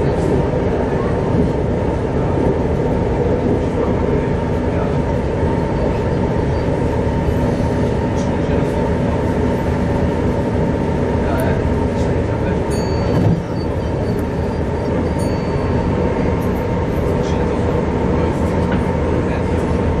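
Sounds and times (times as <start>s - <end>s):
train engine and transmission hum: 0.0s - 20.0s
wheels rumbling on track: 0.0s - 20.0s.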